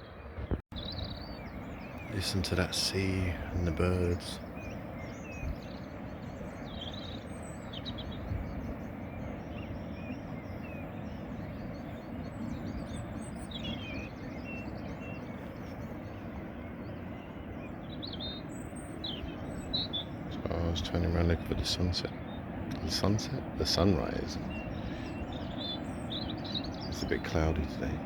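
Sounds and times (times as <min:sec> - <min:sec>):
small birds chirping: 0:00.0 - 0:28.0
sea surf washing: 0:01.5 - 0:28.0.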